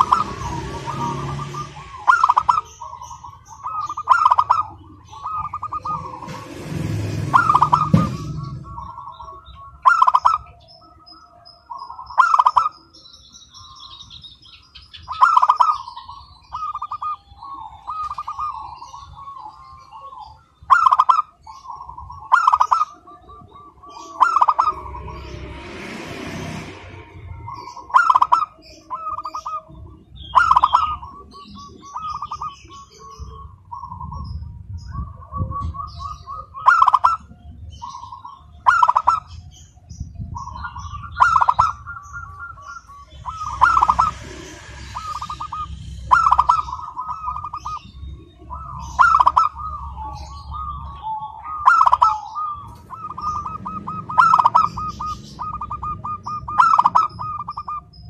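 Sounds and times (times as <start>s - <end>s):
dove cooing: 0.0s - 13.0s, 15.0s - 25.3s, 27.4s - 58.0s
small birds chirping: 0.0s - 58.0s.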